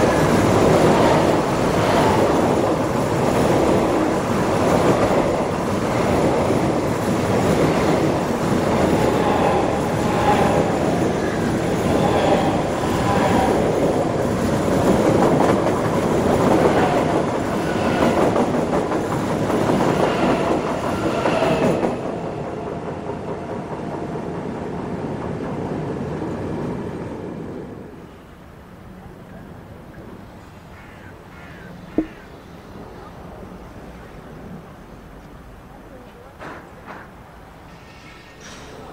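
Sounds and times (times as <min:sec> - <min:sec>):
train wheels rushing on rail: 0:00.0 - 0:30.7, 0:31.5 - 0:38.9.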